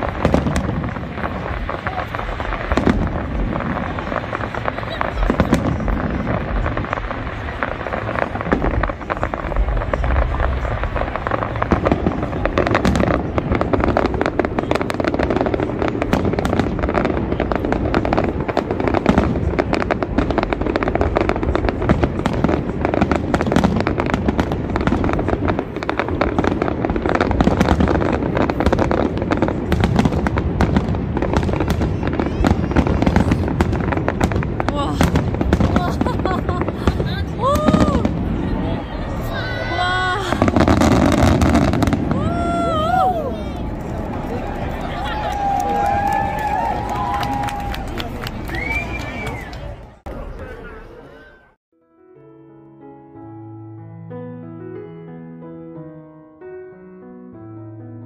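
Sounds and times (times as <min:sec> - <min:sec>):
fireworks bangs and crackles: 0:00.0 - 0:51.1.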